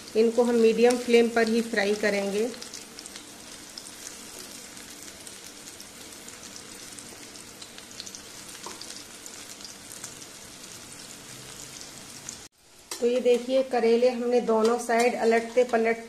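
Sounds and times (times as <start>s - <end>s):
slices frying in hot oil: 0.0s - 16.0s.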